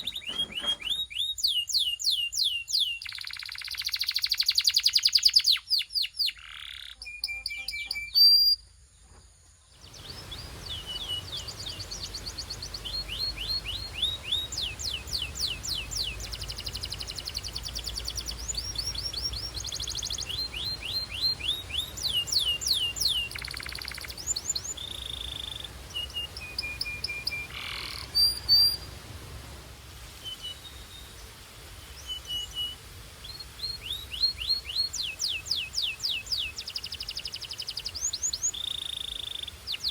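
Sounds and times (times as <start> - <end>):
canary singing trills: 0.0 - 8.7, 9.8 - 28.9, 32.0 - 39.9.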